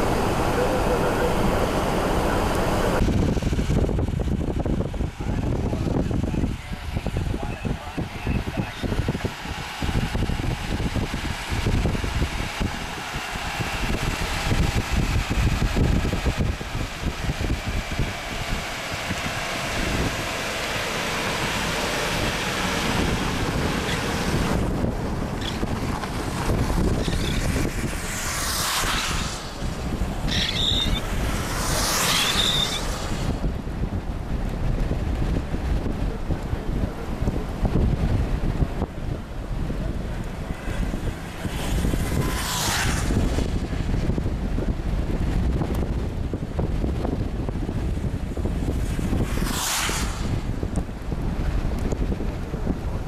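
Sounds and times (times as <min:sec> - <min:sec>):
storm wind buffeting microphone: 0:00.0 - 0:53.0.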